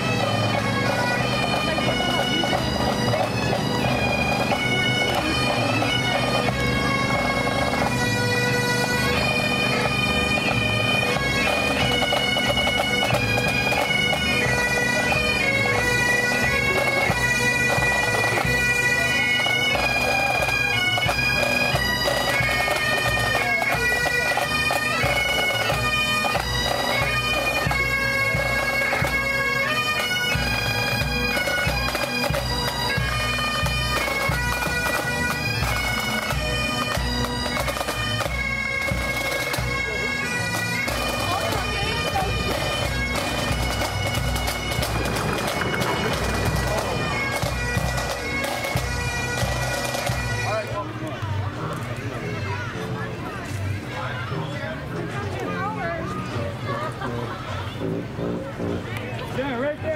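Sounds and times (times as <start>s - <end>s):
drums beating: 0.0s - 50.8s
bagpipes playing melody: 0.0s - 59.9s.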